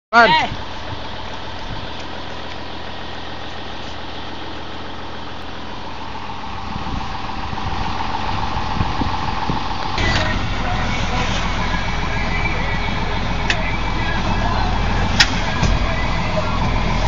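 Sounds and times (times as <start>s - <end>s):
steady whine: 0.2s - 17.0s
tractor engine running: 0.2s - 17.0s.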